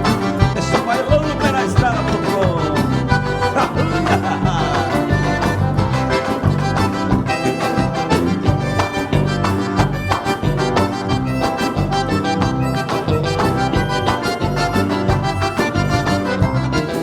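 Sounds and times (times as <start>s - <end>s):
accordion: 0.0s - 17.0s
live band playing: 0.0s - 17.0s.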